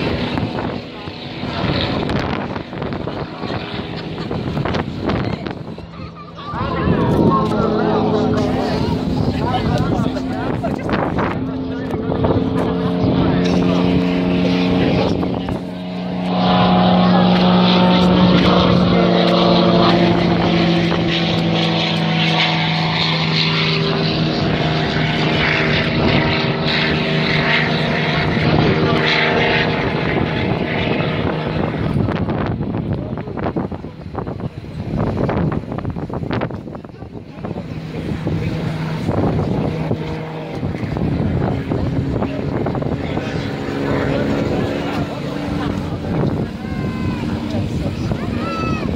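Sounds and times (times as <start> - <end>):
propeller aircraft engine drone: 0.0 - 48.9
wind buffeting microphone: 0.0 - 48.9.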